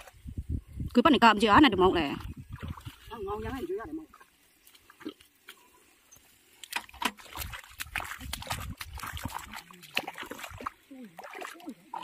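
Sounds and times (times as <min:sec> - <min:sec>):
mud and water sloshing: 0:00.0 - 0:12.0.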